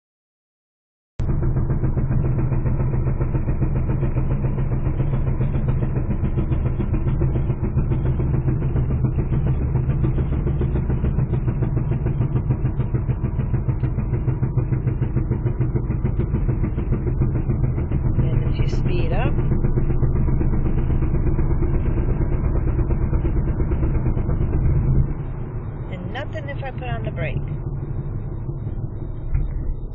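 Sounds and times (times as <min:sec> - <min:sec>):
vehicle engine running: 0:01.2 - 0:29.9.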